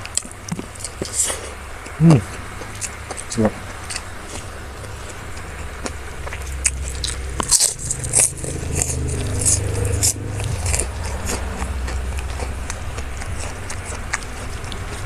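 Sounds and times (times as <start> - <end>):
person chewing crunchy food: 0.0 - 15.0
steady low hum: 0.0 - 15.0.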